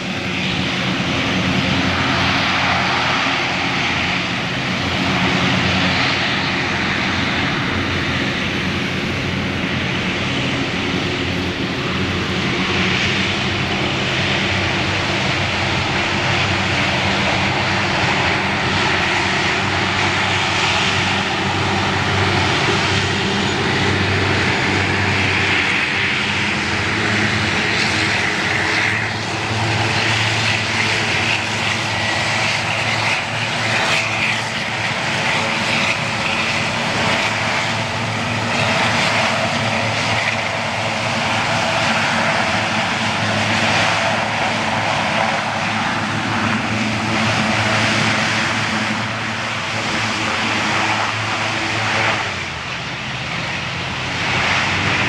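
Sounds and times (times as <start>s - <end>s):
hovercraft engines droning: 0.0s - 55.0s
rushing air and spray: 0.0s - 55.0s.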